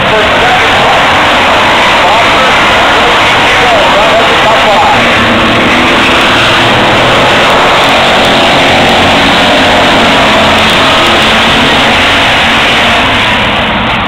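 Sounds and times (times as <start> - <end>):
race car engines roaring: 0.0 - 14.0.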